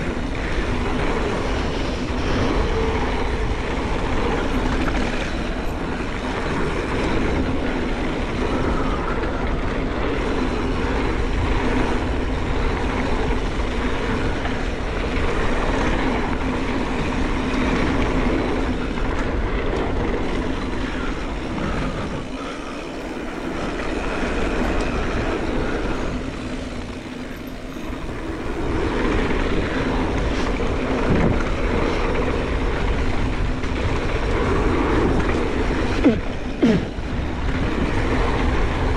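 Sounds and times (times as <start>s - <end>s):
bike rattling: 0.0s - 38.9s
tyres rolling on dirt: 0.0s - 38.9s
wind buffeting microphone: 0.0s - 38.9s.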